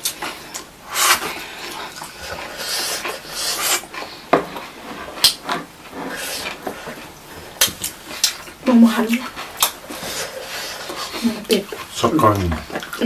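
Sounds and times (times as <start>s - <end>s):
chewing and mouth sounds: 0.0s - 13.0s
chopsticks scraping on a plate: 0.0s - 13.0s.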